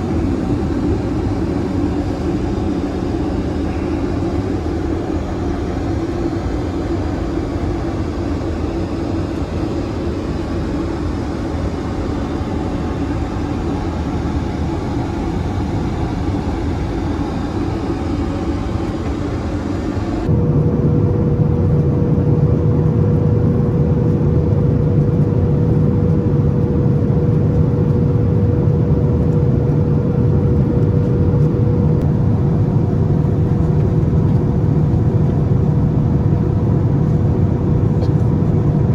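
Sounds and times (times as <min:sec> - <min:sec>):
aircraft cabin drone: 0:00.0 - 0:38.9
steady hum: 0:00.0 - 0:38.9.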